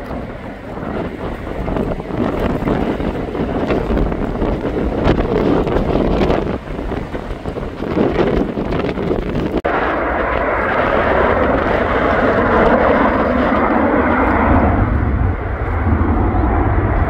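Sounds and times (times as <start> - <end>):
deep rumble: 0.0 - 17.0
jet engine roar: 0.0 - 17.0
wind buffeting microphone: 0.0 - 17.0.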